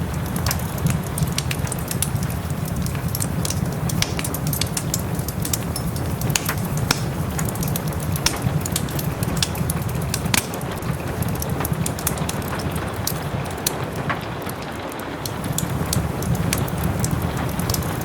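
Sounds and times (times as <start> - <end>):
soft rain falling: 0.0 - 18.0
wood fire crackling: 0.0 - 18.0.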